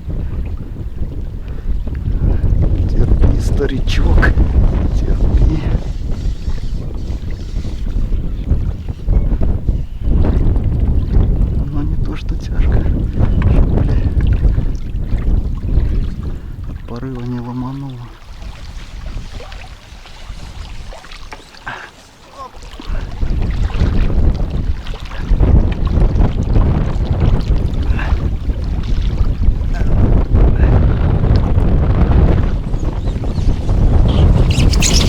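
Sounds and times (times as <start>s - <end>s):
gusty wind buffeting microphone: 0.0s - 35.0s.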